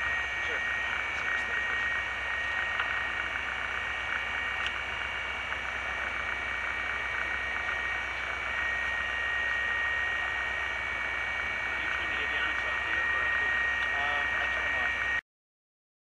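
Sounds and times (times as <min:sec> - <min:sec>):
high whine: 0:00.0 - 0:15.2
propeller engine drone: 0:00.0 - 0:15.2.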